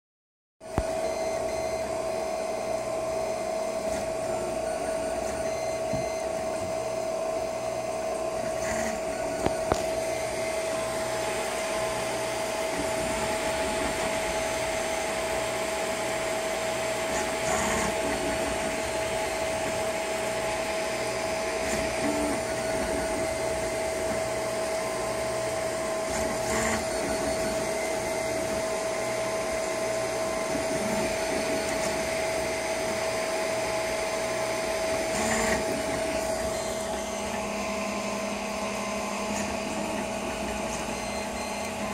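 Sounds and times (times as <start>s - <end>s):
cooling fans whining: 0.6s - 41.9s
stepper motor hum: 0.7s - 41.9s.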